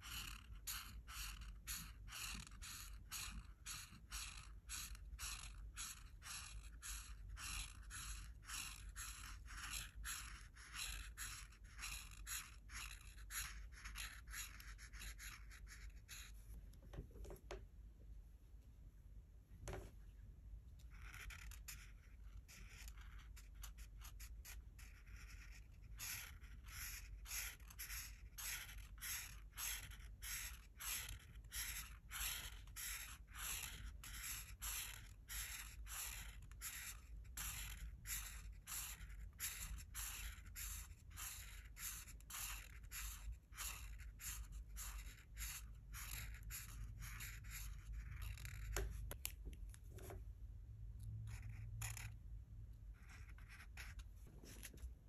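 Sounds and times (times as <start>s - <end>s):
marker stroking on paper: 0.0s - 16.6s, 20.9s - 50.2s, 51.2s - 52.2s, 52.9s - 55.0s.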